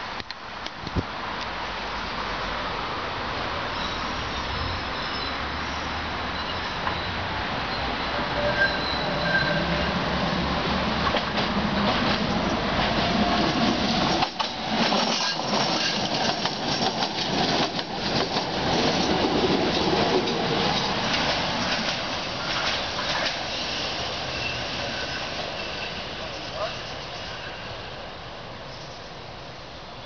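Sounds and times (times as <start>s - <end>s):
trams rolling on rails: 0.0s - 30.0s.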